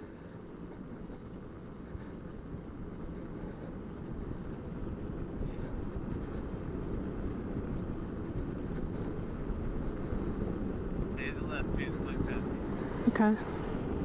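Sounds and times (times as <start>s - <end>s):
tyre road noise: 0.0s - 14.0s
wind rush: 0.0s - 14.0s.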